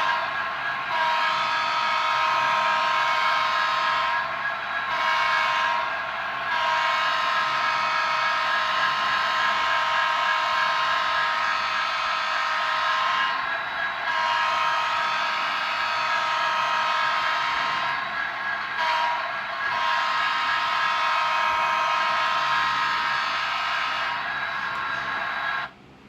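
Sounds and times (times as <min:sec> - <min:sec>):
model train horn blasts: 0:00.0 - 0:25.7.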